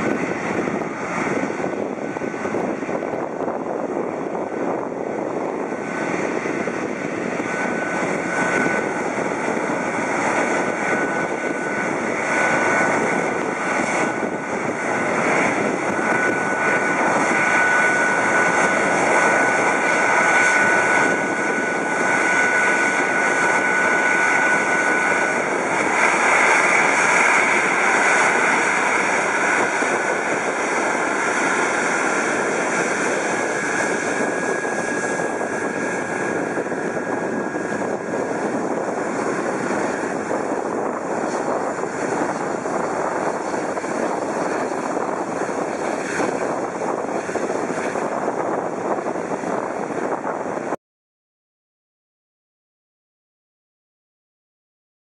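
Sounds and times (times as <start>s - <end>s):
jet engine rumble: 0.0s - 50.8s.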